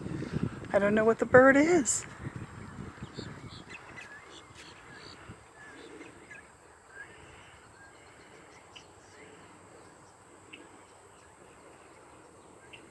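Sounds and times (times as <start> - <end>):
low background hiss: 0.6 - 12.9
faint bird chirps: 2.2 - 12.9.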